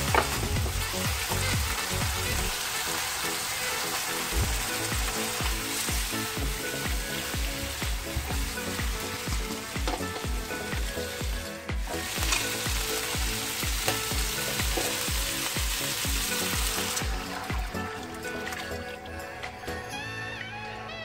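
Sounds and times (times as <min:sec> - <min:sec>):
meat sizzling in a wok: 0:00.0 - 0:18.9
background music with steady beat: 0:00.0 - 0:21.0.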